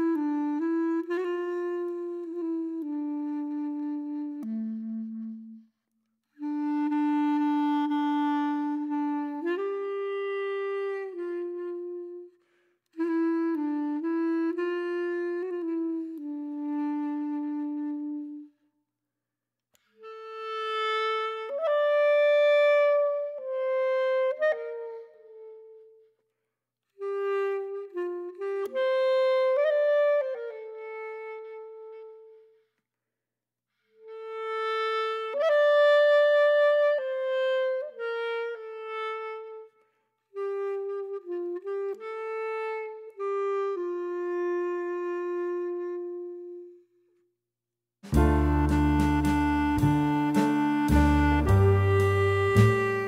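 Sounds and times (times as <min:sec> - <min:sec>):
woodwind melody: 0:00.0 - 0:18.7, 0:19.8 - 0:26.2, 0:26.9 - 0:32.7, 0:33.8 - 0:47.3, 0:48.0 - 0:53.0.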